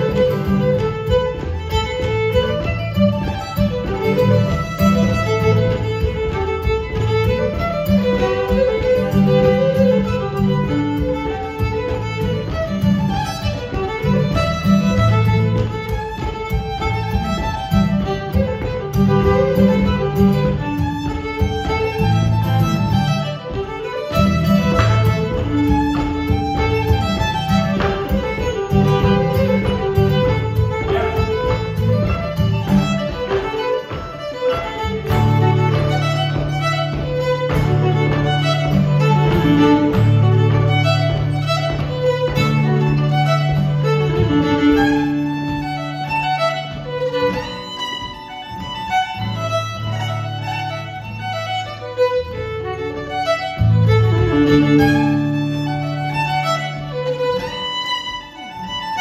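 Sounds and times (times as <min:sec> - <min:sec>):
fiddle melody: 0:00.0 - 0:59.0
strummed acoustic guitar: 0:00.0 - 0:59.0.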